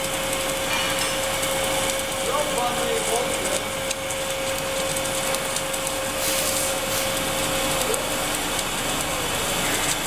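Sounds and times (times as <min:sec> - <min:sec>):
welding torch hissing: 0:01.8 - 0:10.0.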